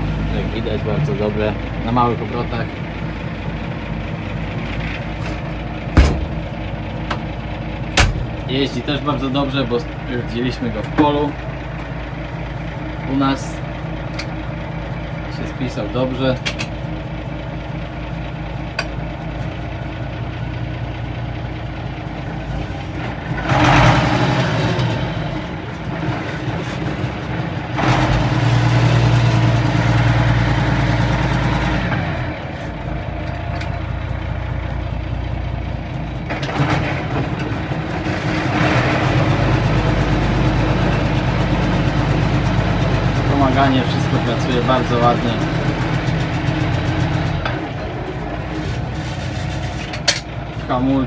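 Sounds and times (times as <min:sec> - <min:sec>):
tractor diesel engine revving: 0:00.0 - 0:51.0.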